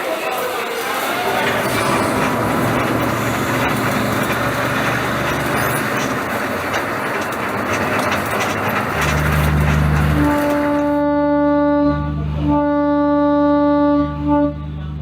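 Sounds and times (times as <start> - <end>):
bus running on road: 0.0 - 15.0.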